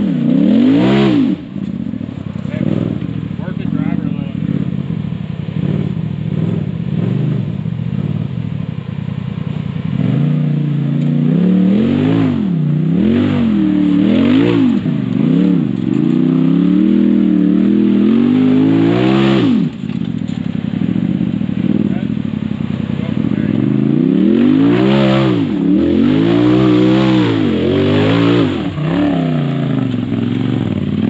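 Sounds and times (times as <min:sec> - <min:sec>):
utility vehicle engine revving: 0:00.0 - 0:31.0.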